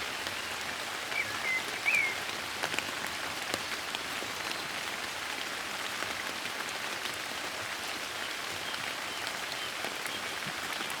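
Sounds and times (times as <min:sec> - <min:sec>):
soft rain falling: 0:00.0 - 0:11.0.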